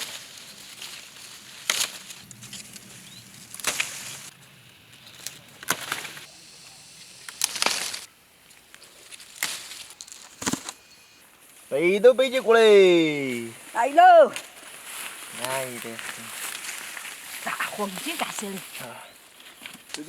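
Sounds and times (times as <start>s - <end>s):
tree branches rustling and shaking: 0.0s - 6.3s, 7.1s - 20.0s.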